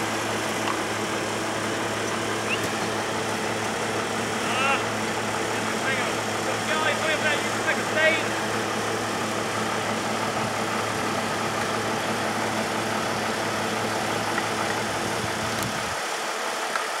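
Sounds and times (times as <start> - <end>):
large engine idling: 0.0 - 17.0.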